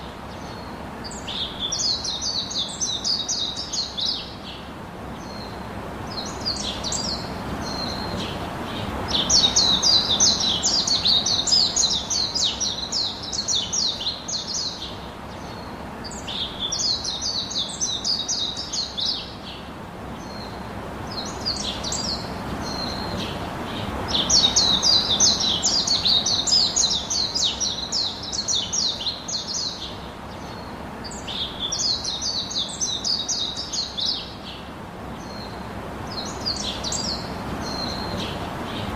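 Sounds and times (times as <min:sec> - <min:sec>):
songbirds singing: 0:00.0 - 0:38.9
steady background hiss: 0:00.0 - 0:38.9.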